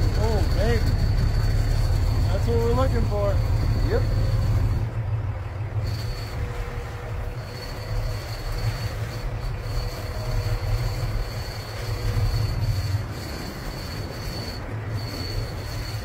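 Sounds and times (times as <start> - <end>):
boat engine rumble: 0.0 - 16.0
high-pitched whine: 0.0 - 16.0
water around the hull: 0.0 - 16.0.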